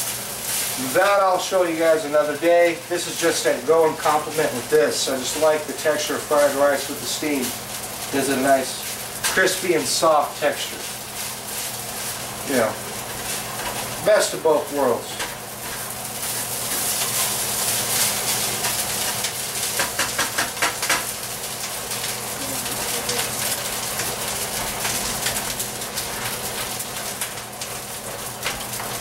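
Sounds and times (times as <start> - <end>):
rice sizzling in a wok: 0.0 - 29.0.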